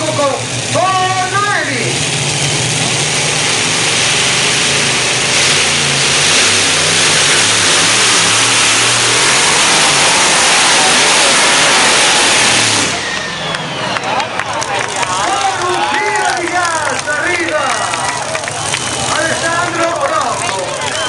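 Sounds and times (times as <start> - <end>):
engines at full throttle: 0.0 - 21.0.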